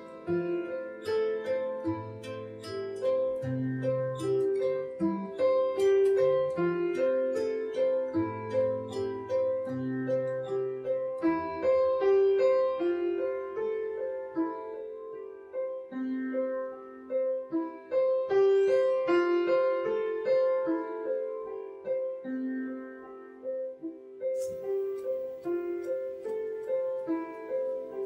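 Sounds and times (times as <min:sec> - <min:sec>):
piano melody: 0:00.0 - 0:28.0.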